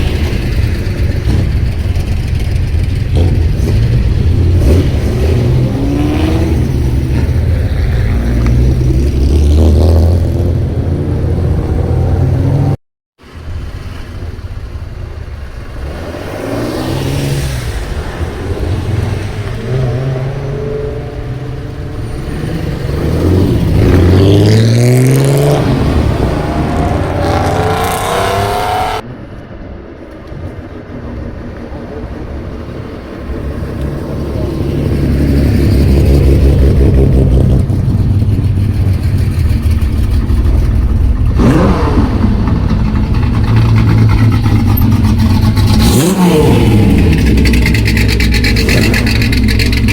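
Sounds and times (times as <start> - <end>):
car engine revving: 0.0 - 12.8, 15.7 - 29.0, 33.4 - 49.9.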